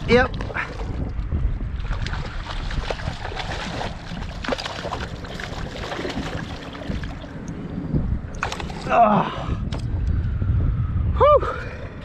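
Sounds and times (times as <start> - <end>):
water splashing and sloshing: 0.0 - 9.8.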